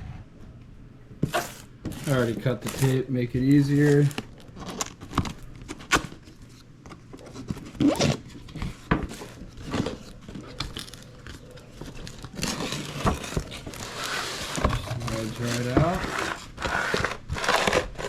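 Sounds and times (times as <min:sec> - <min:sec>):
cardboard packaging rustling: 0:01.2 - 0:18.0.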